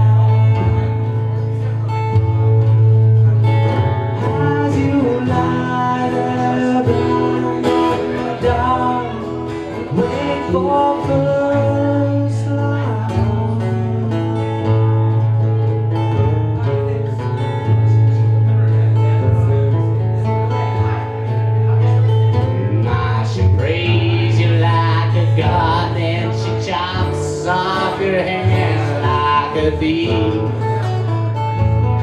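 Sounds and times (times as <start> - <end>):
acoustic guitar strumming: 0.0 - 32.0
low held bass: 0.0 - 32.0.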